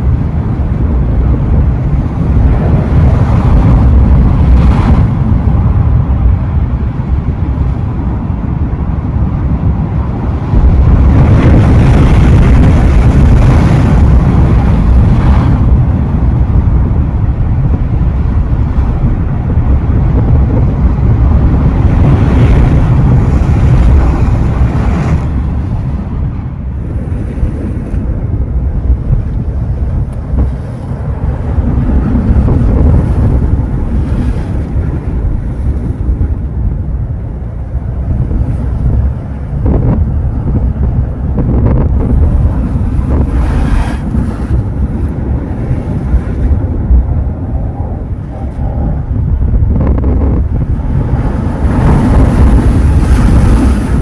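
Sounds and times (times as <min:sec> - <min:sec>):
ocean surf washing onto shore: 0:00.0 - 0:54.0
wind buffeting microphone: 0:00.0 - 0:54.0.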